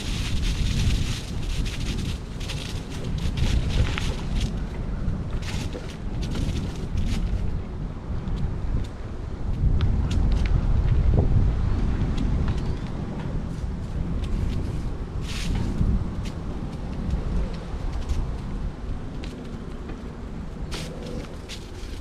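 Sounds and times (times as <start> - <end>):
bicycle clicks and rattles: 0.0 - 11.0, 12.1 - 22.0
wind rumbling on microphone: 0.0 - 22.0.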